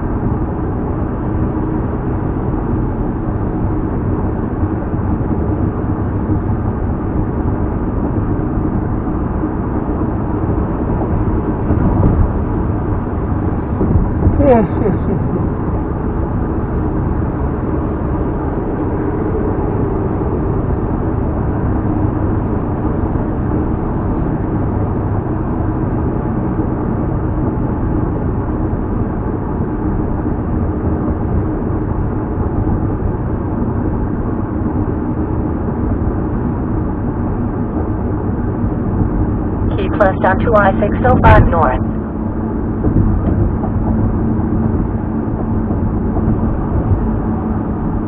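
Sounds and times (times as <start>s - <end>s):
low engine hum: 0.0s - 48.0s
tyres droning on road: 0.0s - 48.0s.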